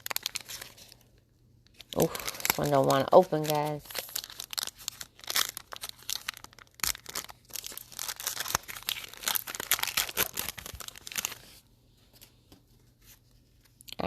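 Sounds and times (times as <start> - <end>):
plastic foil wrapper crinkling: 0.0 - 11.6.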